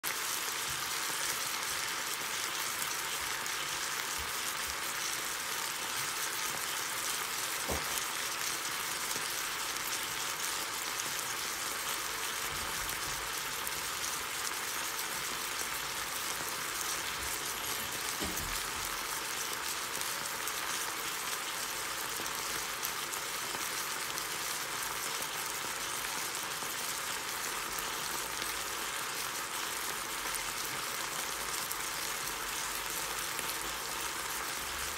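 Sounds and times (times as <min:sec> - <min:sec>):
meat sizzling in a frying pan: 0:00.0 - 0:34.9.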